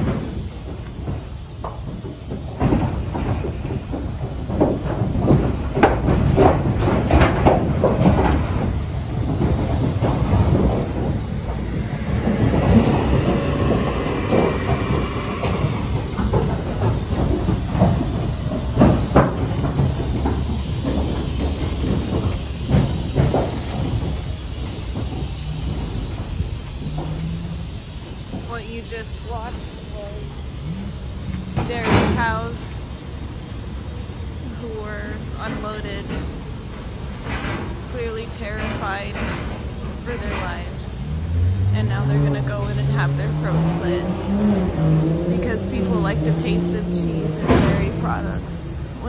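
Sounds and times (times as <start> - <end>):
clanks and knocks: 0.0 - 49.0
steady low rumble: 0.0 - 49.0.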